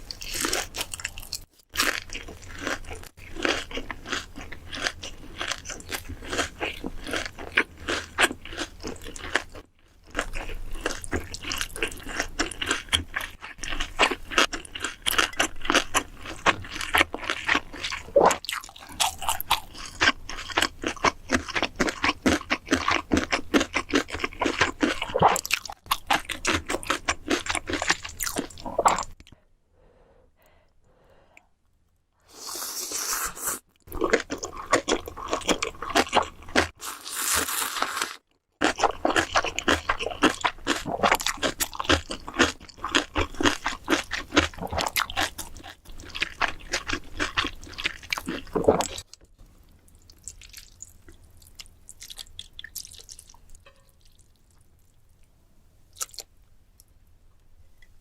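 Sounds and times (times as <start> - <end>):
crunchy food being chewed: 0.0 - 29.4, 32.4 - 55.3, 55.9 - 56.3.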